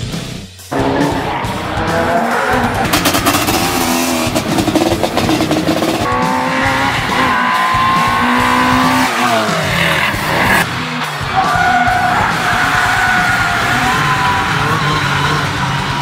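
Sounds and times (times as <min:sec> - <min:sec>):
rally car engines revving: 0:00.0 - 0:16.0
tyres squealing: 0:00.7 - 0:10.6, 0:11.2 - 0:16.0.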